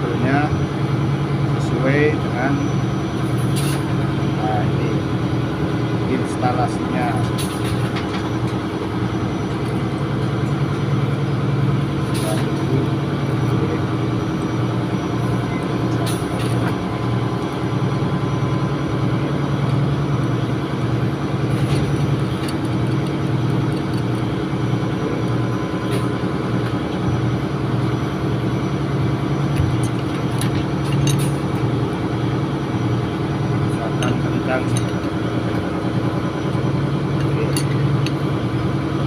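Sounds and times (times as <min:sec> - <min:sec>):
ship machinery drone: 0:00.0 - 0:39.0.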